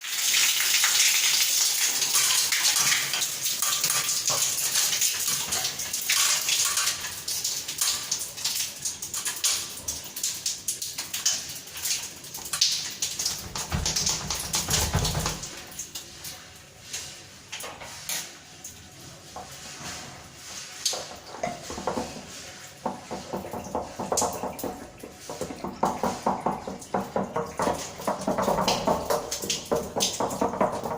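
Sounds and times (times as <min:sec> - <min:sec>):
water gushing and splashing: 0:00.0 - 0:30.9.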